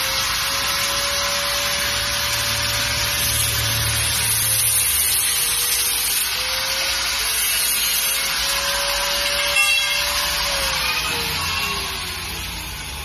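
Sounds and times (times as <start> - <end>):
angle grinder cutting metal: 0.0 - 13.0.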